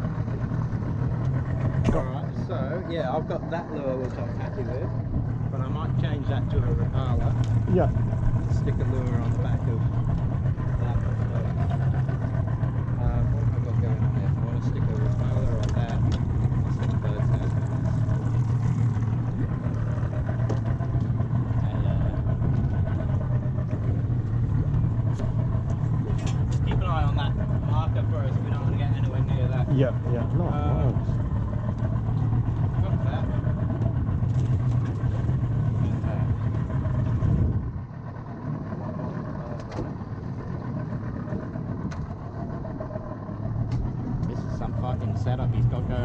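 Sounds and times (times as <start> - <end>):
motorboat engine droning: 0.0 - 46.0.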